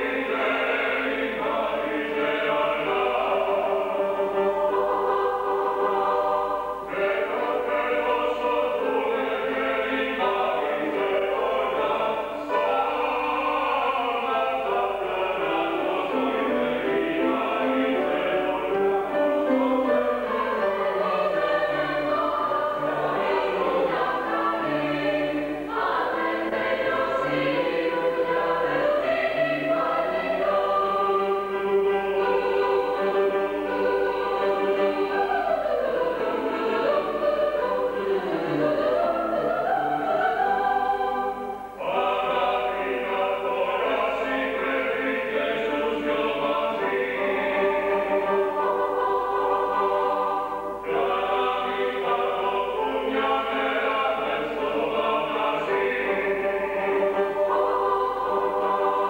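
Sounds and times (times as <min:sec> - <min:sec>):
choir singing operatically: 0:00.0 - 0:59.0.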